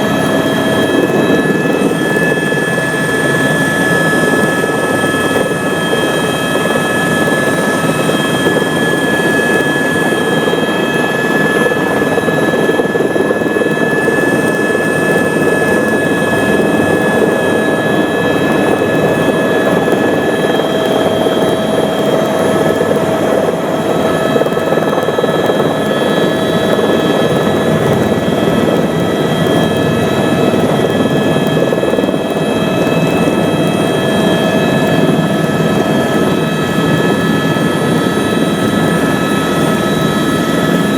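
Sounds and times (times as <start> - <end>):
helicopter rotor and engine noise: 0.0 - 40.9
high turbine whine: 0.0 - 40.9.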